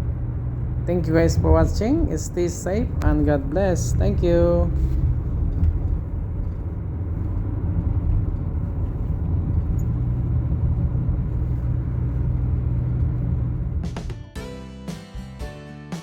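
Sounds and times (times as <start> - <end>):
car engine and tyre rumble: 0.0 - 14.2.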